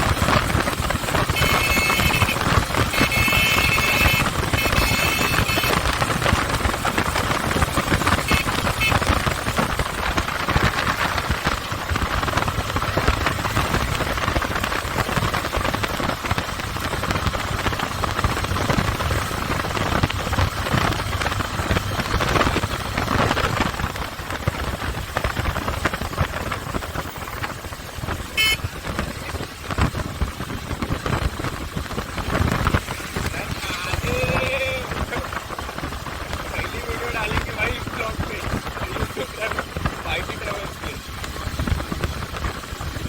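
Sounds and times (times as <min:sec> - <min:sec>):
motorcycle engine rumble: 0:00.0 - 0:43.0
wind buffeting on microphone: 0:00.0 - 0:43.0.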